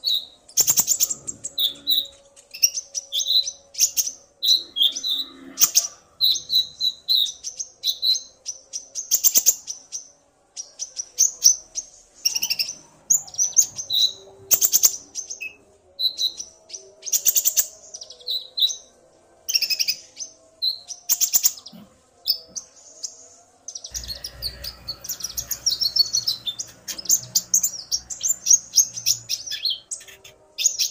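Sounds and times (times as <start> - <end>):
sunbirds chirping and trilling: 0.0 - 30.9.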